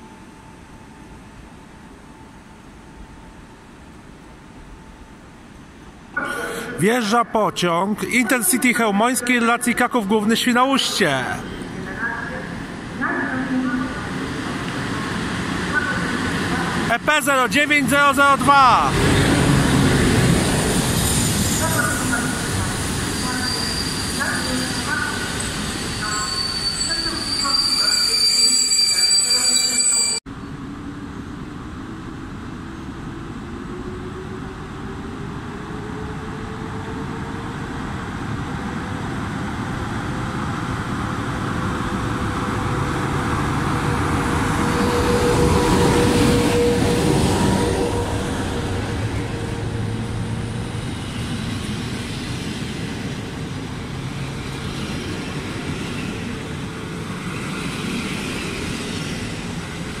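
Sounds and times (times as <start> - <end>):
train rumble and rail noise: 0.0 - 60.0
train whine: 11.3 - 60.0.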